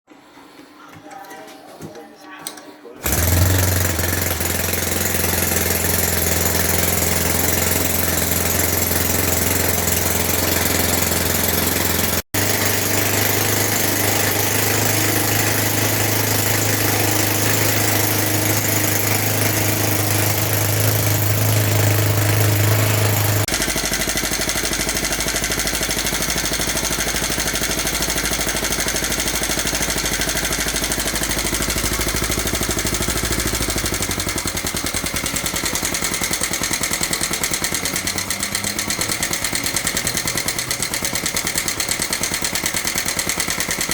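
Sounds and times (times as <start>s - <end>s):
small four-stroke engine running: 3.0s - 43.9s.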